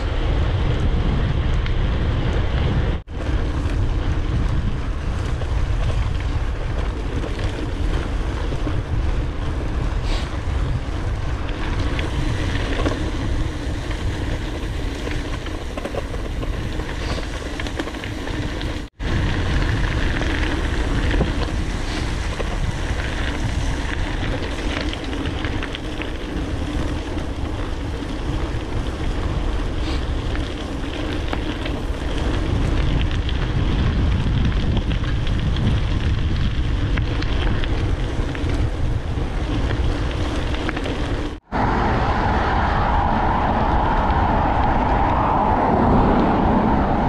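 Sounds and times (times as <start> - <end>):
bike rolling noise: 0.0 - 47.0
wind buffeting microphone: 0.0 - 47.0.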